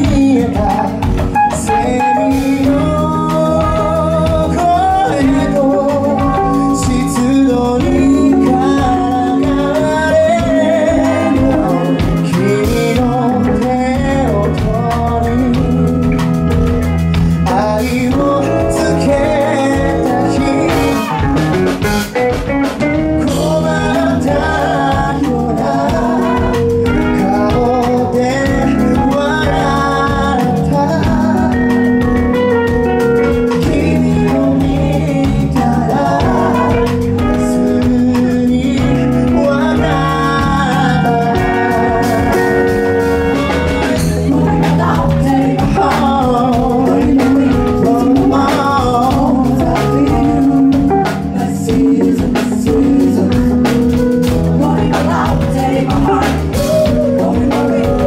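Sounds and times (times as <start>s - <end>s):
bass: 0.0s - 58.0s
drum kit: 0.0s - 58.0s
guitar: 0.0s - 58.0s
people singing: 0.0s - 58.0s.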